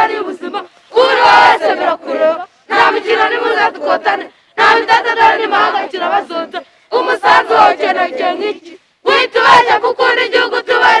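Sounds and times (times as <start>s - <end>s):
children chanting in unison: 0.0s - 11.0s.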